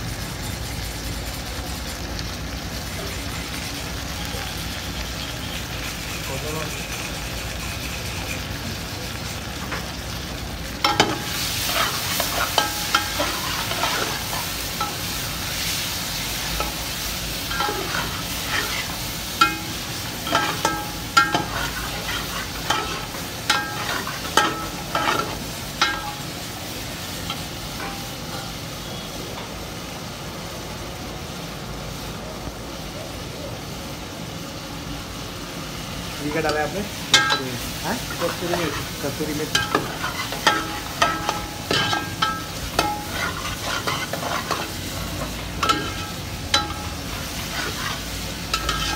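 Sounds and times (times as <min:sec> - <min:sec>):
chicken sizzling in oil: 0:00.0 - 0:48.9.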